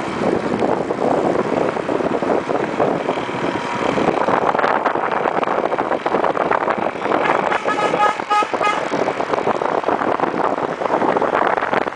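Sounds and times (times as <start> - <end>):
car engine and tyre noise: 0.0 - 11.9
wind buffeting microphone: 0.0 - 11.9.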